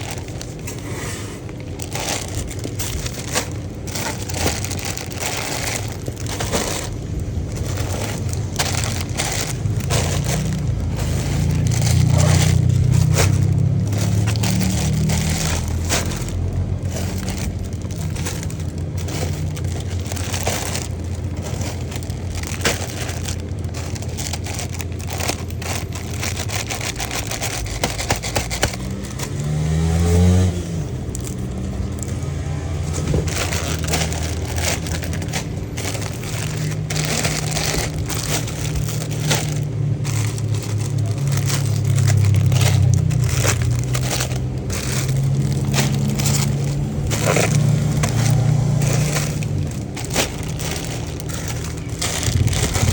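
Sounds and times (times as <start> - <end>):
cardboard and plastic wrap crinkling: 0.0 - 52.9.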